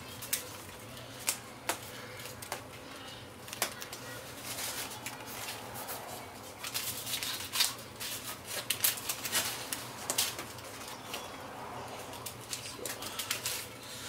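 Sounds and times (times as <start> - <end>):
plastic crinkling rustles: 0.0 - 14.0.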